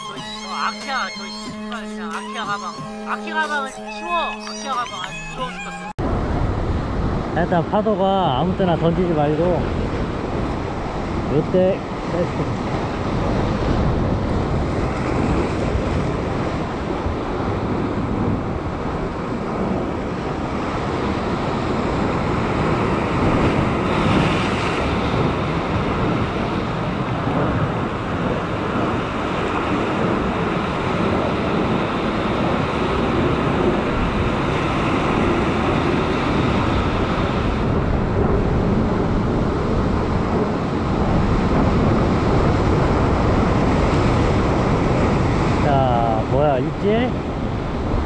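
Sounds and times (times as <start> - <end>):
wind buffeting microphone: 3.6 - 48.0.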